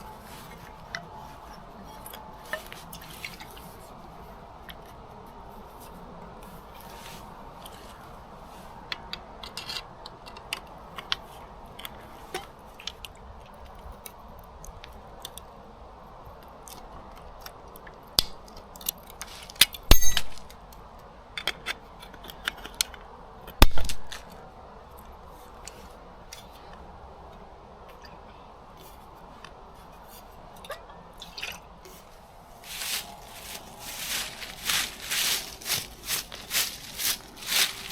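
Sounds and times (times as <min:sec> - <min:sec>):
steady low hiss: 0:00.0 - 0:37.9.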